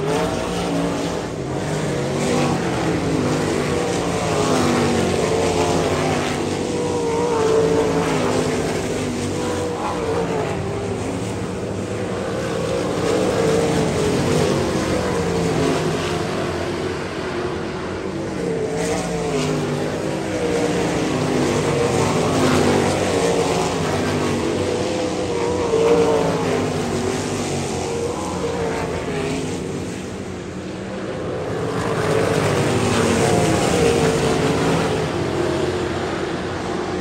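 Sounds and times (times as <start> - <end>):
race car engines: 0.0 - 37.0.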